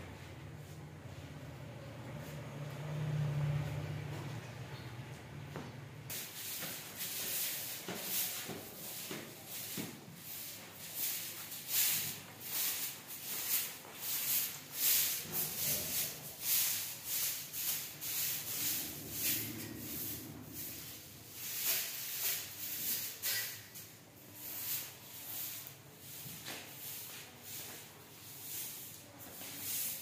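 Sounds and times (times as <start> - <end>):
broom sweeping stone floor: 5.6 - 30.0.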